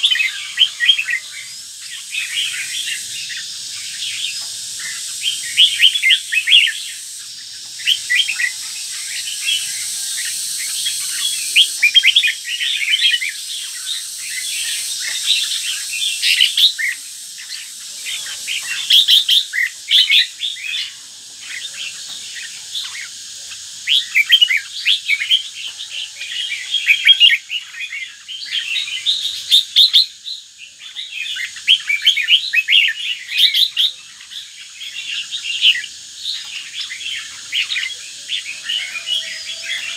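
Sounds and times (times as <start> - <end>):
bird singing: 0.0 - 39.9
faint high hiss: 0.0 - 39.9.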